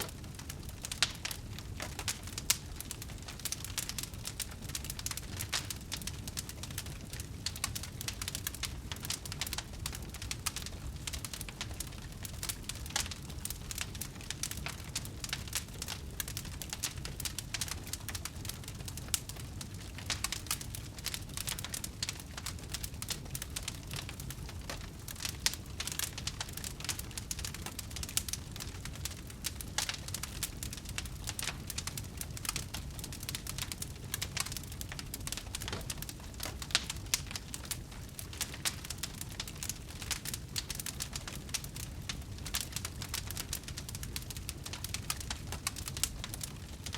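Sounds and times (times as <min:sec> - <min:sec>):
low rumble of burning: 0:00.0 - 0:46.9
wood fire crackling: 0:00.0 - 0:46.9.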